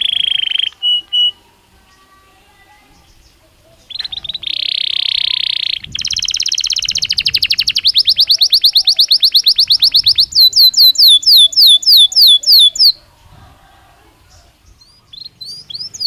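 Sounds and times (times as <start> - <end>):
canary singing: 0.0 - 13.2, 14.2 - 16.0.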